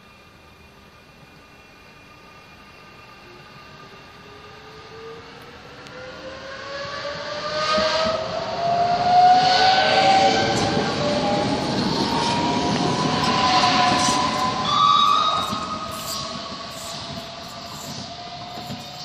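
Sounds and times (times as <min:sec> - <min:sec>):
train motor whine rising: 0:00.0 - 0:19.0
train wheels rumbling on rails: 0:03.4 - 0:19.0.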